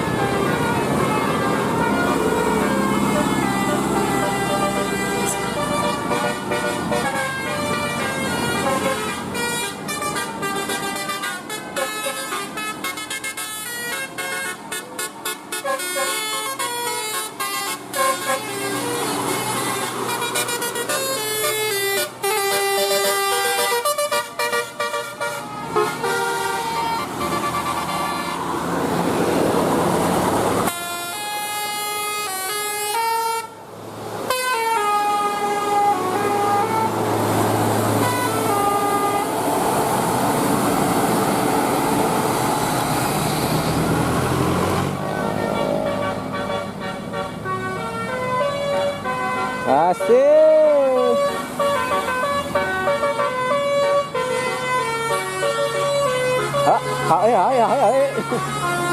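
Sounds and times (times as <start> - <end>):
musical air horns playing melody: 0.0 - 28.6, 30.6 - 33.6, 34.3 - 39.9, 45.1 - 58.9.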